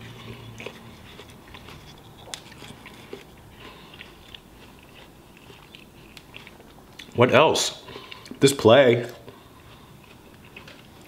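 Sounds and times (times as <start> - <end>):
person chewing watermelon: 0.0 - 11.0.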